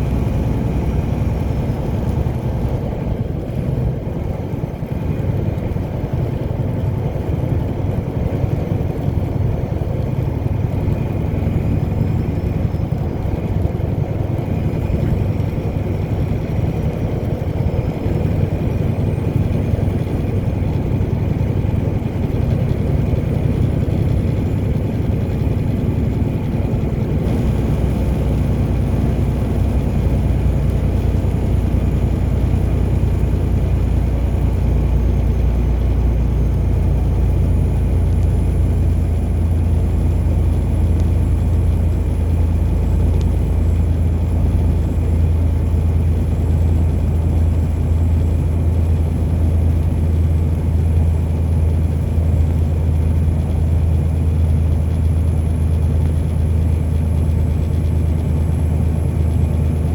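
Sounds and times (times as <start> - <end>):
car engine rumble: 0.0 - 59.9
tyre road noise: 0.0 - 59.9.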